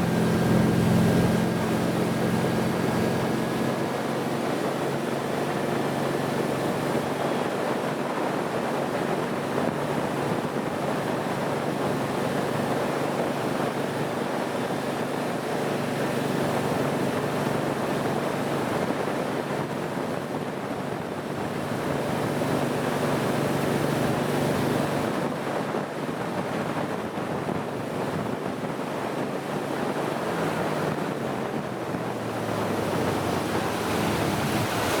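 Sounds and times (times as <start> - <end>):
motorboat engine running: 0.0 - 35.0
water rushing past hull: 0.0 - 35.0
wind buffeting microphone: 0.0 - 35.0.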